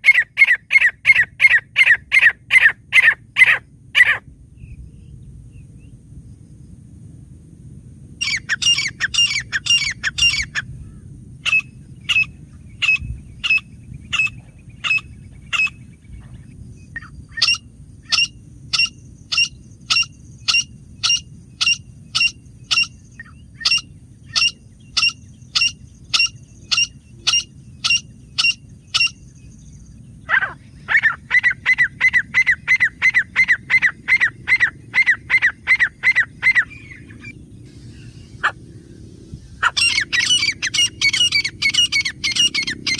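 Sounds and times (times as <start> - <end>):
francolin calling: 0.0 - 4.2, 8.2 - 42.9.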